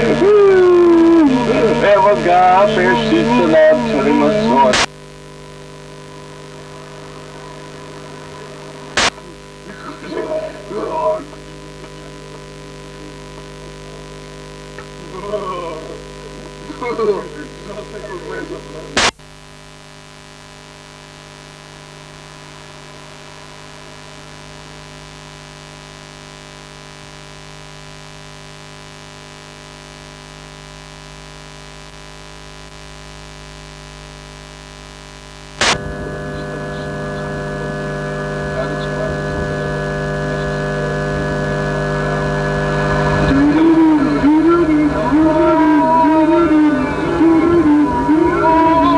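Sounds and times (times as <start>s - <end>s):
electrical hum: 0.0s - 48.9s.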